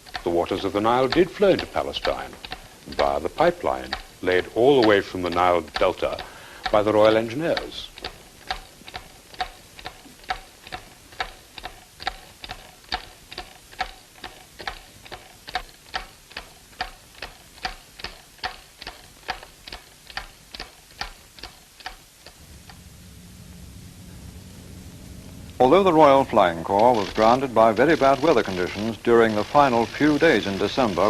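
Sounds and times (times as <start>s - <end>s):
clock ticking: 0.0s - 22.4s, 25.2s - 31.0s.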